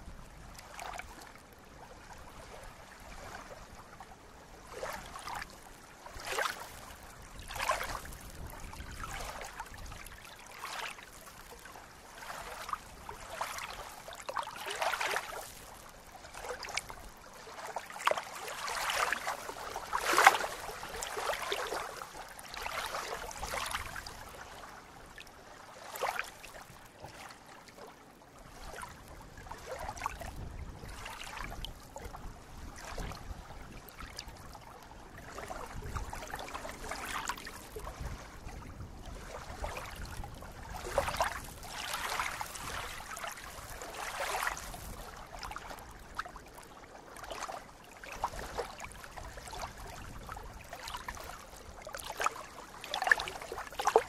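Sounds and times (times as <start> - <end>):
water lapping at shore: 0.0 - 54.0.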